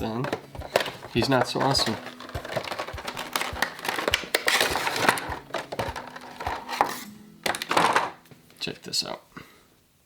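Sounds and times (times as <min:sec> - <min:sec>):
packaging clicks and crinkling: 0:00.0 - 0:08.2.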